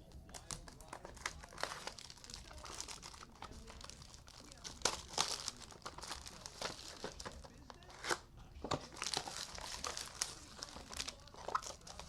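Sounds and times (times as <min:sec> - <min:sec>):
card wrappers crinkling and tearing: 0:00.0 - 0:12.0.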